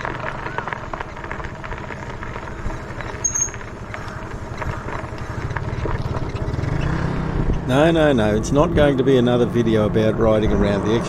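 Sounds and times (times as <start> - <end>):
bike tyres rolling on pavement: 0.0 - 11.0.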